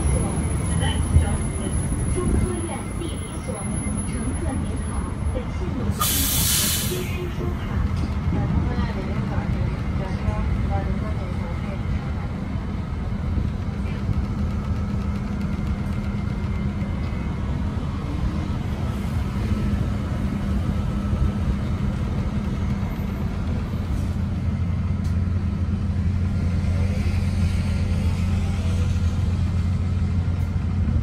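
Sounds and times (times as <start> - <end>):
bus engine hum: 0.0 - 31.0
road noise: 0.0 - 31.0.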